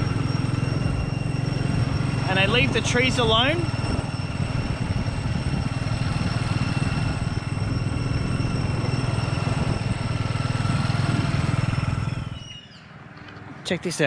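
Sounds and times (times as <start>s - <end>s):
motorbike engine cruising: 0.0s - 12.7s
wind and road noise: 0.0s - 14.0s.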